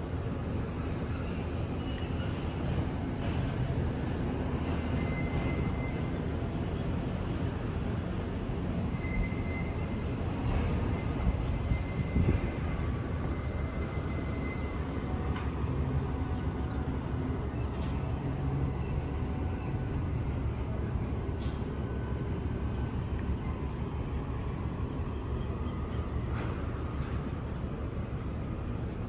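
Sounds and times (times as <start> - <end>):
ship engine low rumble: 0.0 - 29.0.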